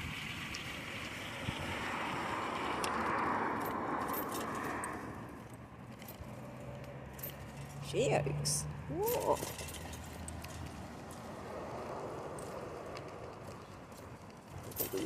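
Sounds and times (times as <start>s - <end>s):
car tyre and road noise: 0.0s - 15.0s.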